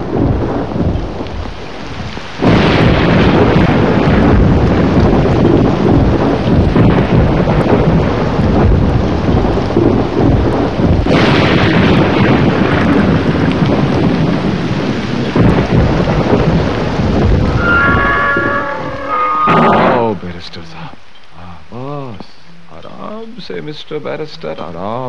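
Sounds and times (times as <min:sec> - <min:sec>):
sharp thunderclap: 0:00.0 - 0:20.2
rumbling thunder: 0:00.0 - 0:20.4
heavy rain: 0:00.0 - 0:25.0.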